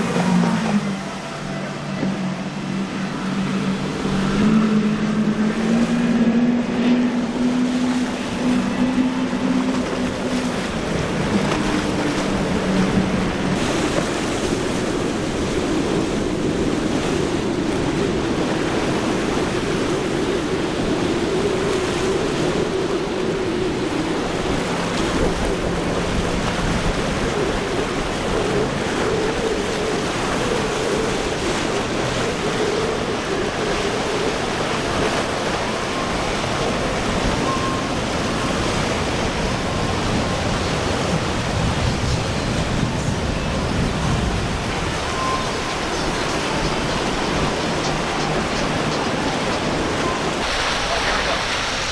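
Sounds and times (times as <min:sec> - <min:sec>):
outboard boat engines droning: 0:00.0 - 0:51.9
surf: 0:00.0 - 0:51.9
wind: 0:00.0 - 0:51.9.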